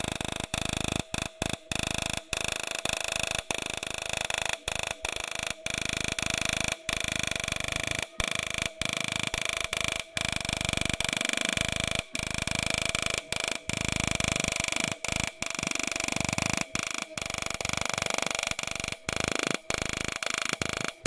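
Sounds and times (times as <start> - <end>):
dot peen marker buzzing rattle: 0.0 - 21.0.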